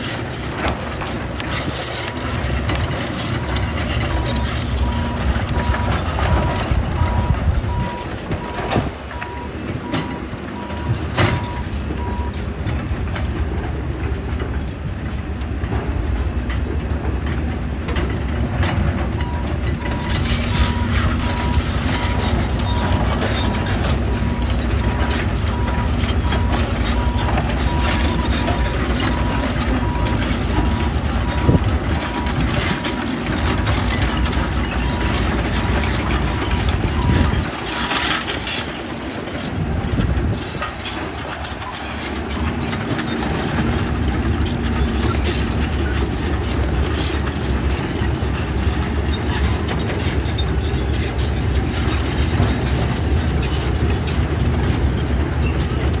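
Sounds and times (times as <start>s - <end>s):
heavy diesel machinery rumbling: 0.0s - 56.0s.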